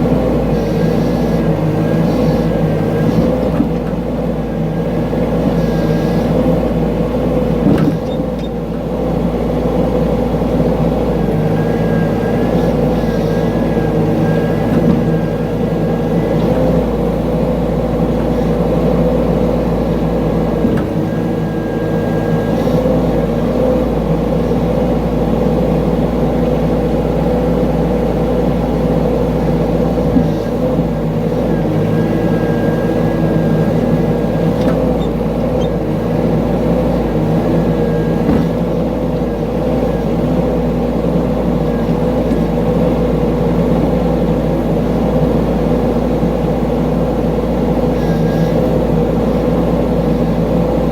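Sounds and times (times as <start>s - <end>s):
excavator engine running: 0.0s - 50.9s.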